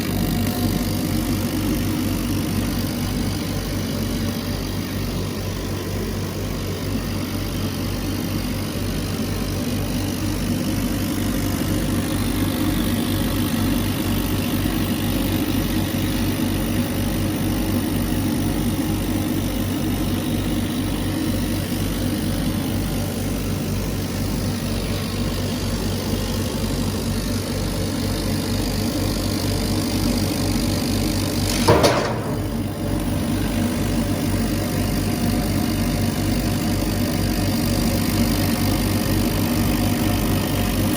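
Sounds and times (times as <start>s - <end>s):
laser cutter humming: 0.0s - 40.9s.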